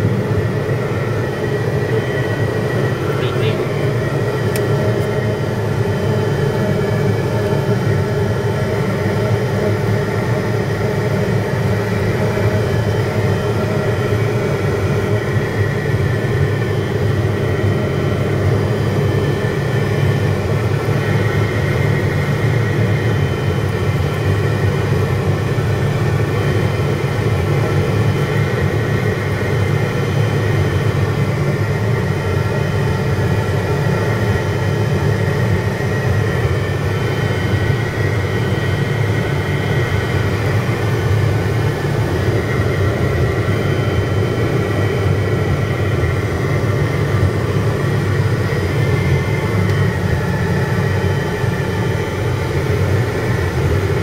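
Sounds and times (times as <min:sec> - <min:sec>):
turboprop engine drone: 0:00.0 - 0:54.0.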